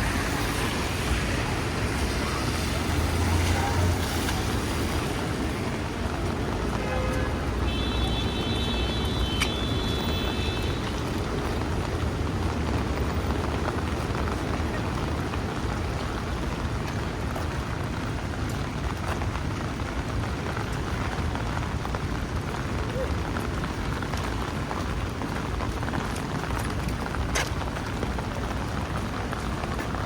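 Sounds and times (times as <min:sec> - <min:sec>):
rain on street: 0:00.0 - 0:30.0
traffic rumble: 0:00.0 - 0:30.0.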